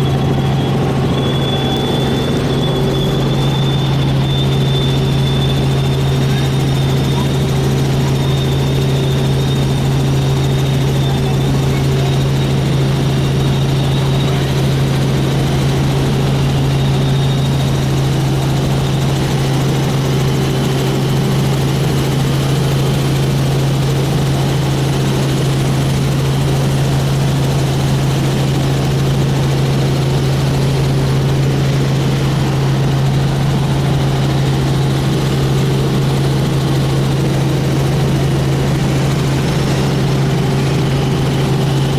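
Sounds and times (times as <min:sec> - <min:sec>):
helicopter drone: 0:00.0 - 0:41.9.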